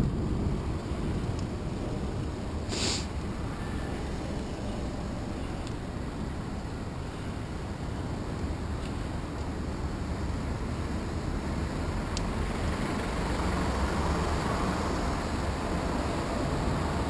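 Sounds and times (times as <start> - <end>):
large truck passing: 0.0 - 8.2, 9.6 - 17.0
street traffic rumble: 0.0 - 17.0.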